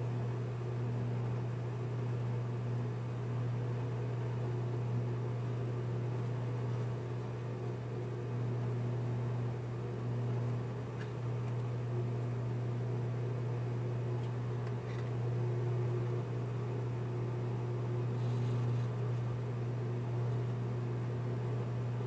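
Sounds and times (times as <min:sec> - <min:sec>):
spindle motor humming: 0:00.0 - 0:22.0.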